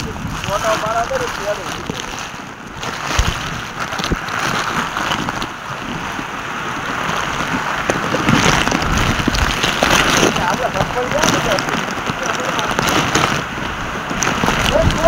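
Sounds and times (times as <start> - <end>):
heavy rain on stone: 0.0 - 15.0.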